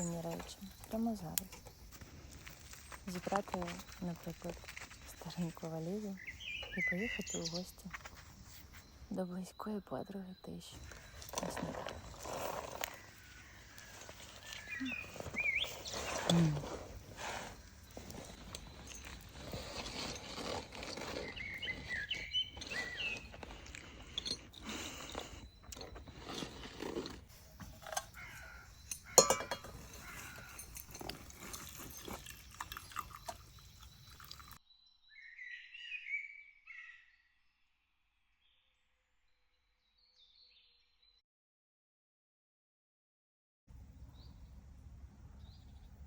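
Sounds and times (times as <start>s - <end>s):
outdoor background noise: 0.0s - 34.6s, 43.7s - 46.0s
birds chirping: 0.0s - 37.2s.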